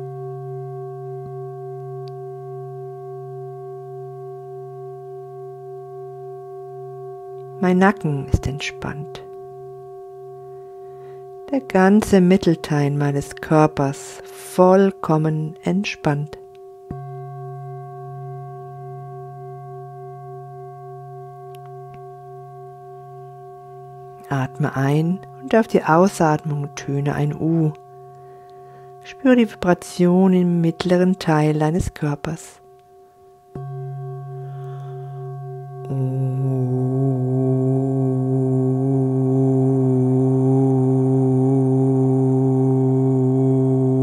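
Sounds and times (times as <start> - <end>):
singing bowl ringing: 0.0 - 44.0.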